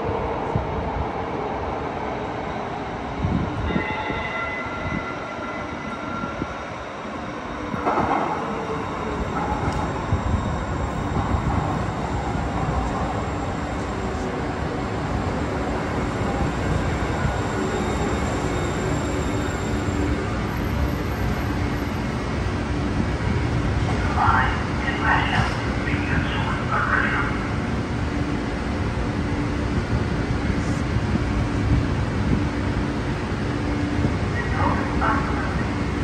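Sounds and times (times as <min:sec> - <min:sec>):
train rumbling through tunnel: 0:00.0 - 0:36.0.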